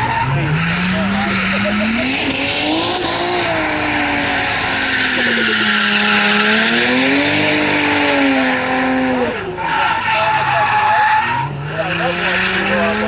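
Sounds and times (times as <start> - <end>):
car engine revving high: 0.0 - 13.0
tires screeching: 0.0 - 13.0.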